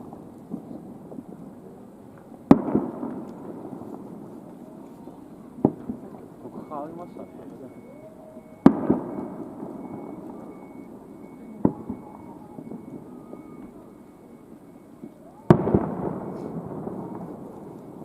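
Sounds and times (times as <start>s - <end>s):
fireworks bangs: 0.0s - 18.0s
rumbling echo: 0.0s - 18.0s.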